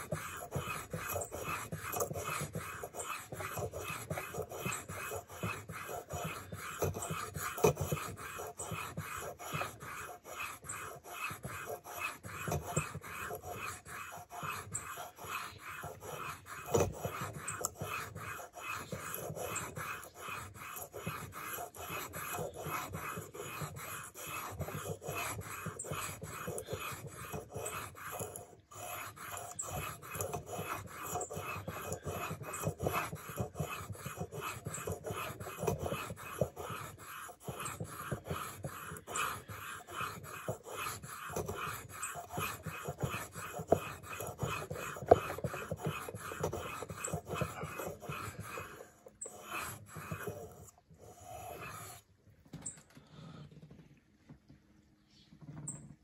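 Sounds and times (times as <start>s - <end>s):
blade rasping on sharpening stone: 0.0s - 52.0s.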